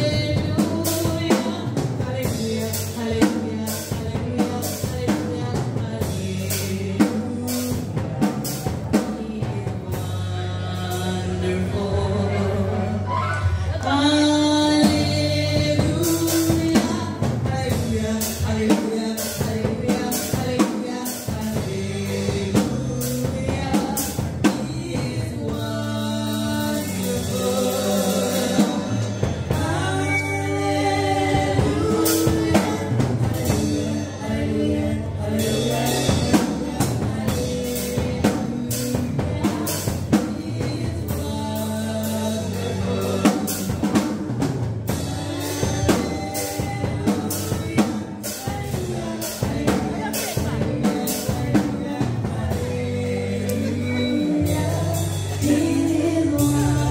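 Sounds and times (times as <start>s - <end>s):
bass: 0.0s - 56.9s
women singing gospel: 0.0s - 56.9s.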